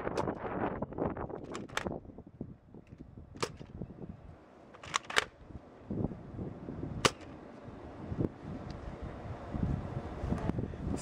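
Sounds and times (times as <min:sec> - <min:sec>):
wind on microphone: 0:00.0 - 0:04.4, 0:05.3 - 0:11.0.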